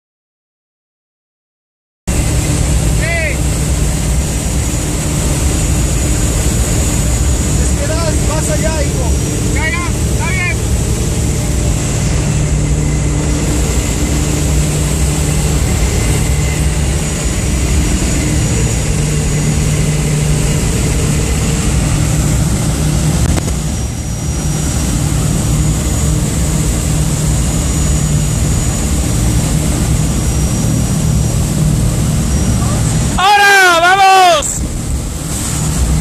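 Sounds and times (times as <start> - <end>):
propeller aircraft engine droning: 2.1 - 36.0.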